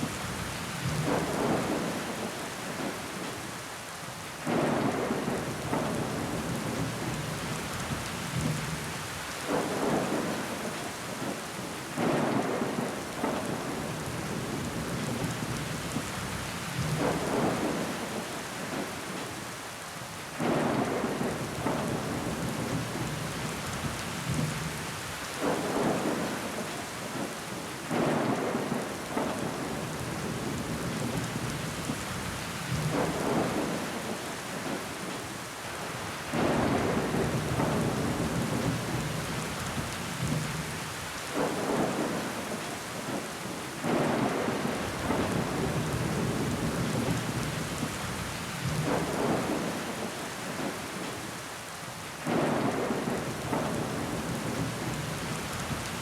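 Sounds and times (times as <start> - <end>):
heavy rain on window glass: 0.0 - 56.0.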